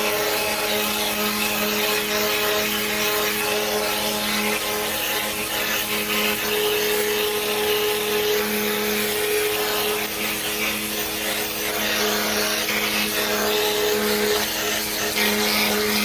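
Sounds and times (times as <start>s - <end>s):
motor humming: 0.0s - 16.0s.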